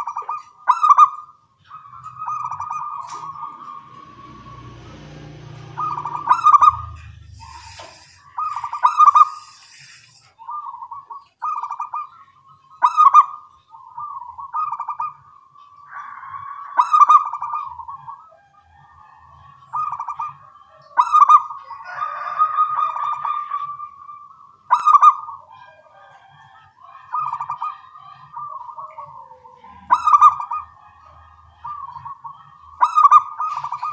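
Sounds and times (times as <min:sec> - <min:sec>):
doves cooing: 0:00.0 - 0:33.9.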